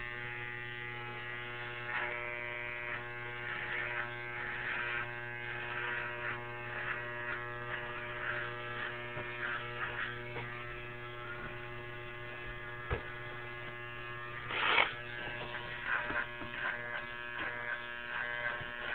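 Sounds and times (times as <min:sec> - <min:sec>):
electric shaver buzzing: 0:00.0 - 0:18.9.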